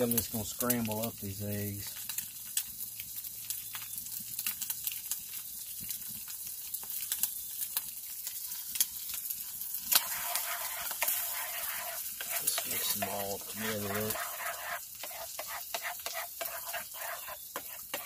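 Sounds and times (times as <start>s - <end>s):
eggs stirred in a pan: 0.0s - 18.0s
food sizzling in a skillet: 0.0s - 18.0s.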